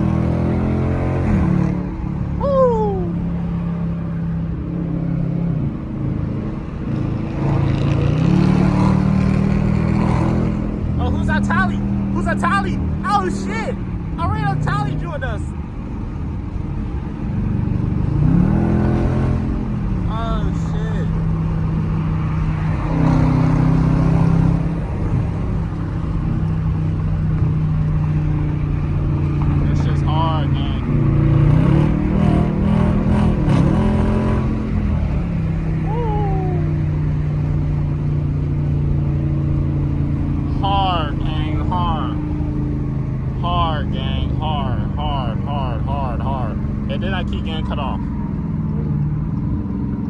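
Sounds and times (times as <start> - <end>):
car engine accelerating: 0.0 - 50.0.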